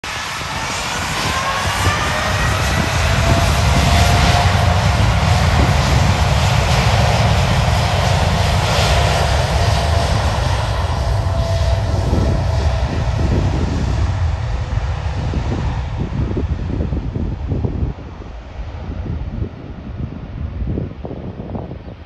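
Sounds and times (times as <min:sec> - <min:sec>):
jet engine roar: 0:00.0 - 0:22.0
rising engine whine: 0:00.1 - 0:22.0.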